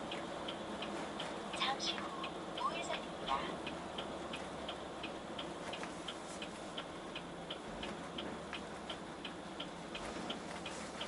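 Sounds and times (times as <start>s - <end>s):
engine humming: 0.0s - 11.0s
road noise: 0.0s - 11.0s
turn signal ticking: 0.0s - 11.0s.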